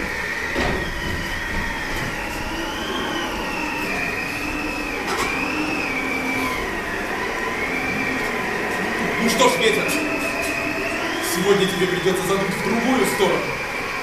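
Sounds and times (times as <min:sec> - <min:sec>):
howling wind effect: 0:00.0 - 0:14.0.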